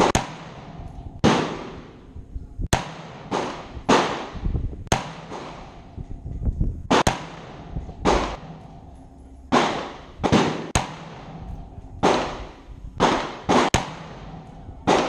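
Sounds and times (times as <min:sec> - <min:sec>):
rifle gunshots with echo: 0:00.0 - 0:15.0.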